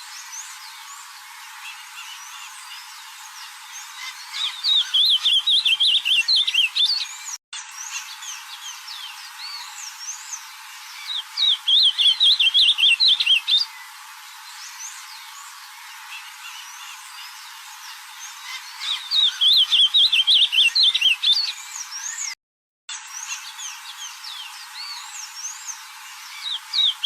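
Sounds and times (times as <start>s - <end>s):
songbird warbling: 0.0s - 22.3s, 23.1s - 27.0s
birds chirping: 0.0s - 27.0s.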